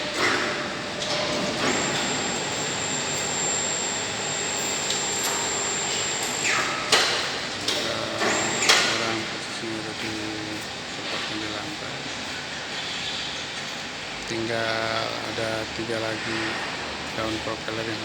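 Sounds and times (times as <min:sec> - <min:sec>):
machine high whine: 0:00.0 - 0:18.0.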